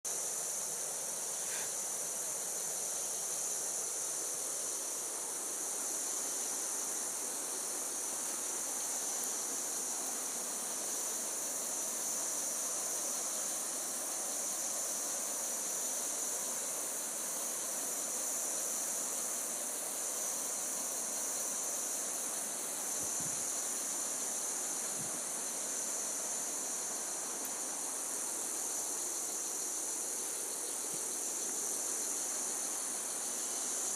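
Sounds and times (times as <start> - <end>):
forest background noise: 0.0 - 33.9
insect chorus shrilling: 0.1 - 33.9.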